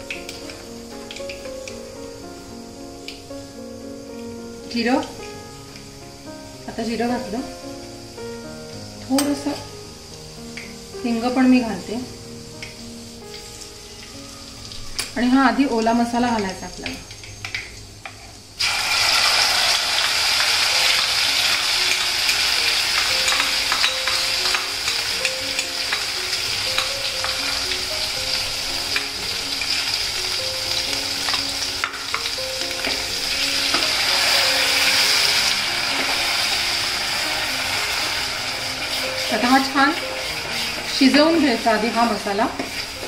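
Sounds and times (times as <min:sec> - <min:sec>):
paste sizzling in hot oil: 0:00.0 - 0:43.0.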